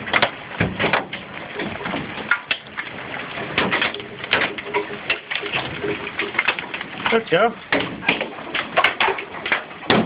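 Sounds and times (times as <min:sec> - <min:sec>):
hailstones clattering on house: 0:00.0 - 0:10.0.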